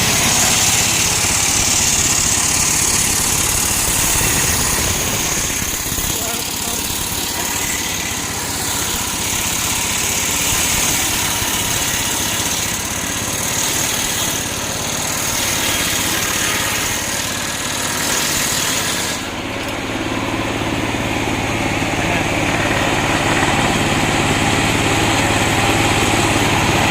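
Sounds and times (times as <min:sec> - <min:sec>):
sawmill engine running: 0:00.0 - 0:26.9.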